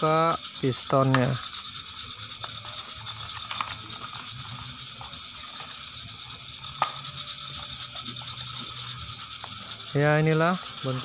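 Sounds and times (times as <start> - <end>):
high-pitched background drone: 0.0 - 11.0.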